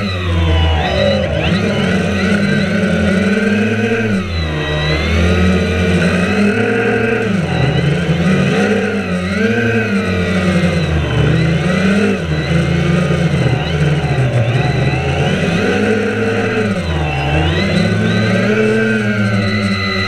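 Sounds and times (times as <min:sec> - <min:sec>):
drone propellers whirring: 0:00.0 - 0:20.0.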